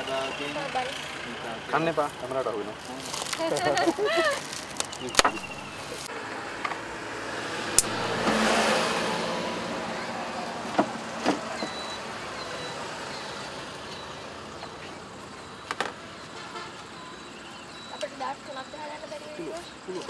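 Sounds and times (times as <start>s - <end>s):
motor vehicle passing: 0.0s - 16.4s.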